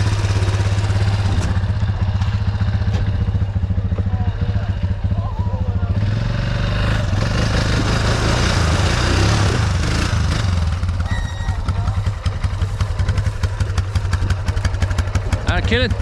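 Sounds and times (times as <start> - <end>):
atv engine running: 0.0 - 16.0
rapid engine ticking: 0.0 - 16.0.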